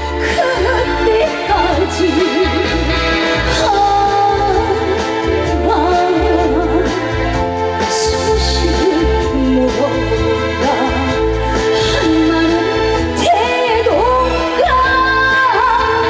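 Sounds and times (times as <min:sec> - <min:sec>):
band accompaniment: 0:00.0 - 0:16.0
woman singing with vibrato: 0:00.0 - 0:16.0.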